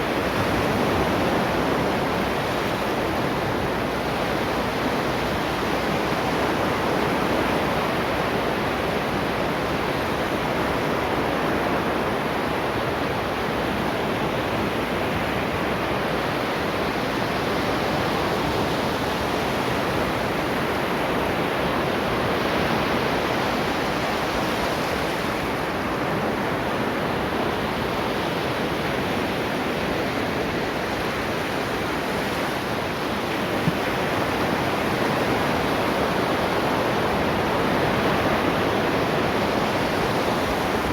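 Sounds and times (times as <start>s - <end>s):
ocean waves on shore: 0.0s - 40.9s.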